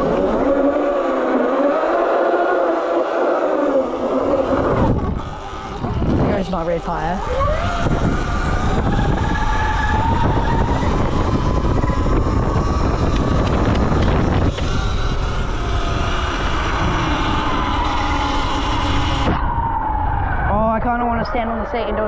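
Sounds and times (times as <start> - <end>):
electric motor whine: 0.0 - 19.6
wind buffeting microphone: 0.0 - 22.0.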